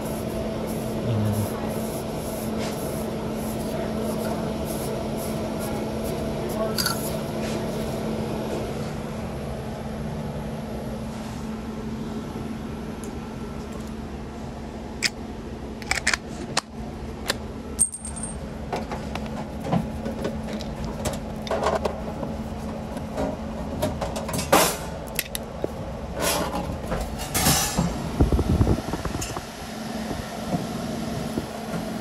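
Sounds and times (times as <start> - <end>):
freezer refrigeration hum: 0.0 - 32.0.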